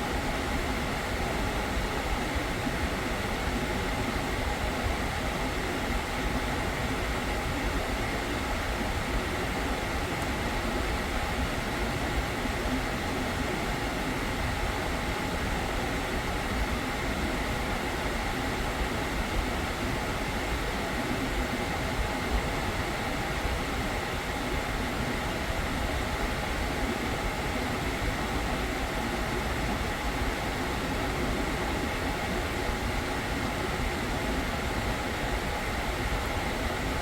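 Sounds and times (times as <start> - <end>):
air conditioning fans humming: 0.0 - 37.0.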